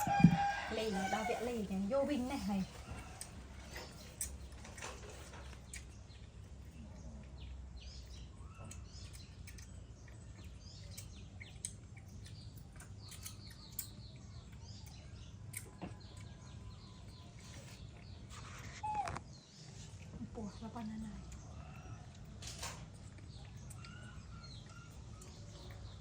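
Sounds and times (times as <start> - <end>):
low steady background hum: 0.0 - 26.0
small birds chirping: 0.0 - 26.0.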